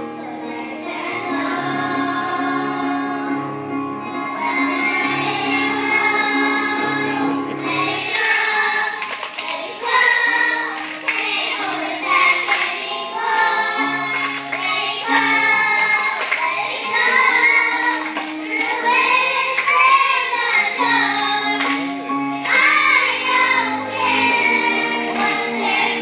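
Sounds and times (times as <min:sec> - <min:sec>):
backing music: 0:00.0 - 0:26.0
children singing: 0:00.0 - 0:26.0.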